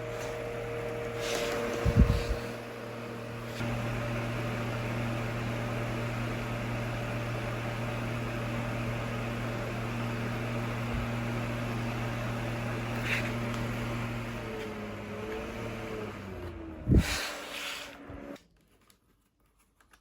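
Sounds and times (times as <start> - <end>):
small fan running: 0.0 - 18.4.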